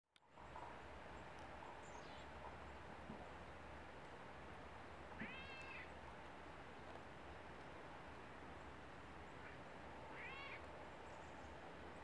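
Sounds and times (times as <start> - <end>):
background hiss: 0.2 - 12.0.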